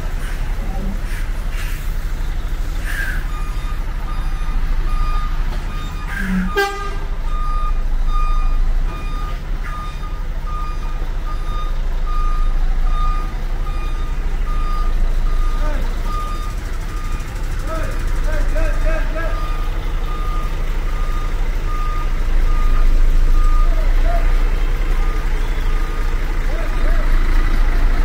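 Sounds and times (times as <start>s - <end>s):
diesel machinery rumbling: 0.0s - 28.0s
reversing alarm beeping: 2.8s - 27.6s.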